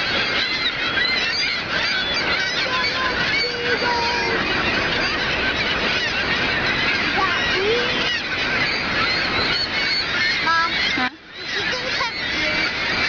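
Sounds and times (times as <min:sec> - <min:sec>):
gulls squawking and crying: 0:00.0 - 0:13.0
rushing waterfall: 0:00.0 - 0:13.0.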